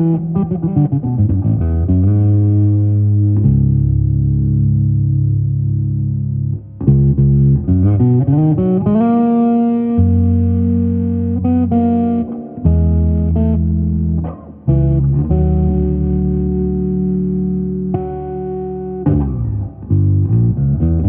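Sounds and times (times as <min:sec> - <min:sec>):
electric bass playing: 0:00.0 - 0:21.0.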